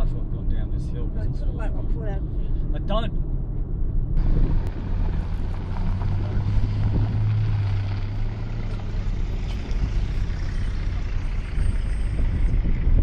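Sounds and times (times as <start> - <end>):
steady low rumble: 0.0 - 13.0
vehicle engine humming: 0.0 - 13.0.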